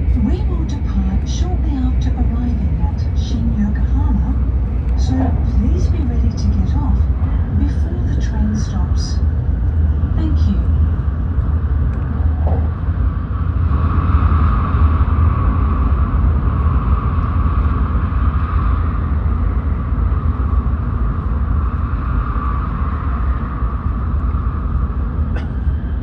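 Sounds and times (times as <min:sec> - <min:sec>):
higher tunnel hum: 0:00.0 - 0:26.0
train cabin deep rumble: 0:00.0 - 0:26.0.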